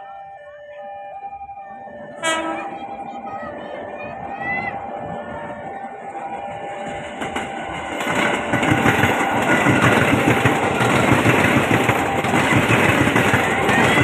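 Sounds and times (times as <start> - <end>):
train wheels rattling on rails: 2.1 - 14.0.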